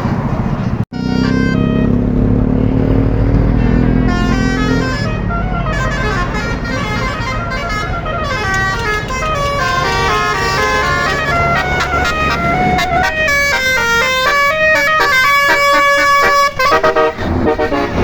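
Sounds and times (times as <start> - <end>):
musical bus horn tune: 0.9 - 18.0.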